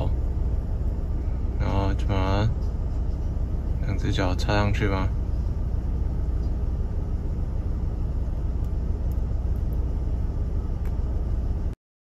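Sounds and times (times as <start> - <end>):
car rumble: 0.0 - 11.8.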